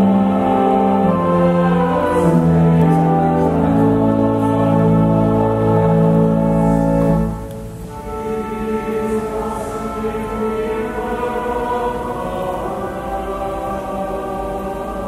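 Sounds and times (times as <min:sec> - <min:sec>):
church choir singing: 0:00.0 - 0:15.0
loud low held chord: 0:00.0 - 0:15.0.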